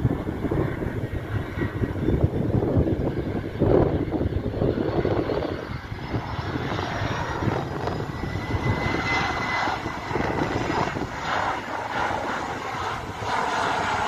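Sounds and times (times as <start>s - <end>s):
high jet engine whine: 0.0s - 14.0s
jet airliner roar overhead: 0.0s - 14.0s.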